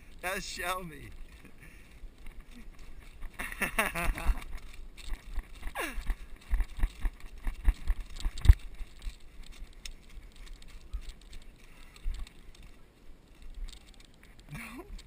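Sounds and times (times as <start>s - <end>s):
bicycle rattling over rough ground: 0.0s - 15.0s.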